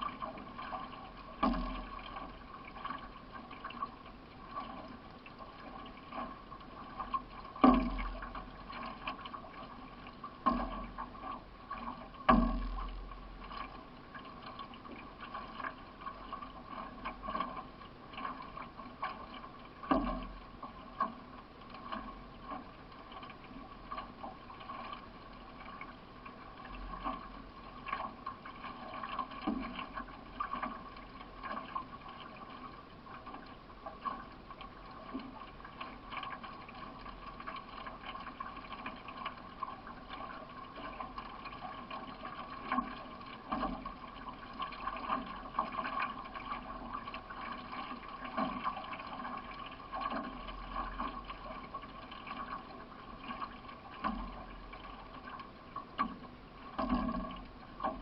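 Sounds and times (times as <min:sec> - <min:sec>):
water rushing along canoe hull: 0:00.0 - 0:58.0.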